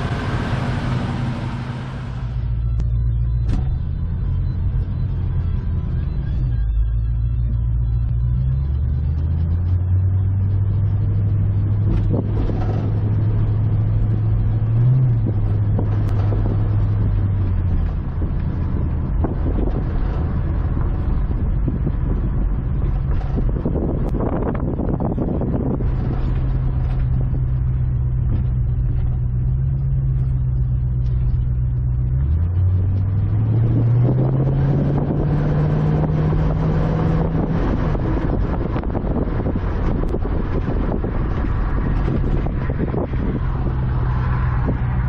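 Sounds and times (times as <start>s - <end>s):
car engine droning: 0.0s - 45.0s.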